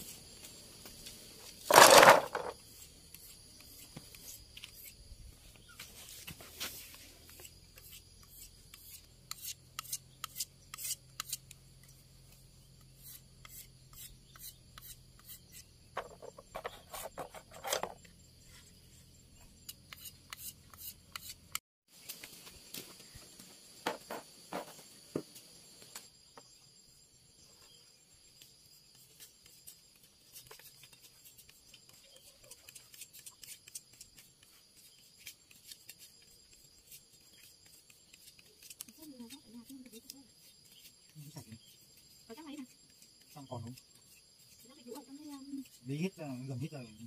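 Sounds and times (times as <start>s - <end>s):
knife scraping bamboo: 1.5s - 21.6s, 28.4s - 46.4s.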